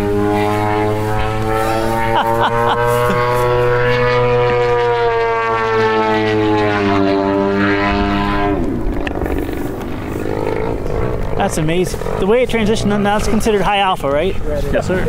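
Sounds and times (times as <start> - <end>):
model airplane engine droning: 0.0 - 15.0
steady low hum: 0.0 - 15.0.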